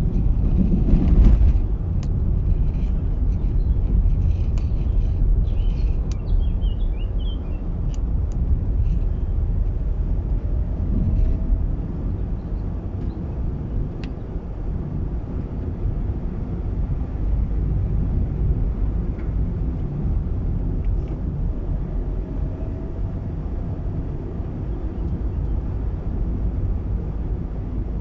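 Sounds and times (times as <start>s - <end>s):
car driving on road: 0.0s - 28.0s.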